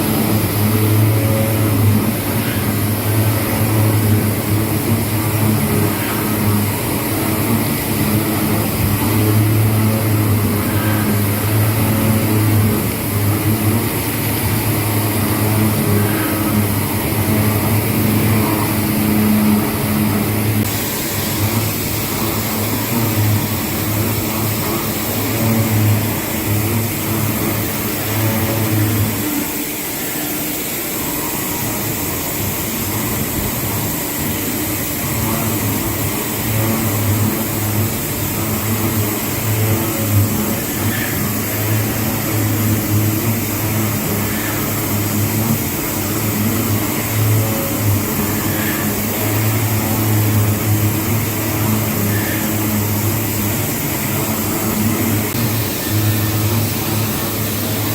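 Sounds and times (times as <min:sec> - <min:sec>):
machine tool humming: 0:00.0 - 0:57.9.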